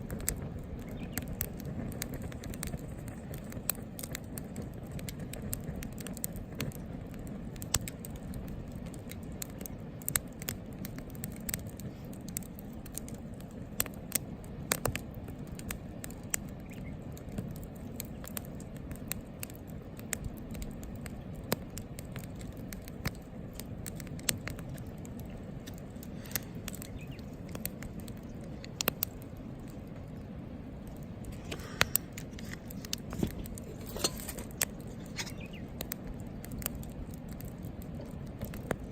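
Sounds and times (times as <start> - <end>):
low steady rumble: 0.0 - 38.9
wood fire crackling and popping: 0.0 - 38.9.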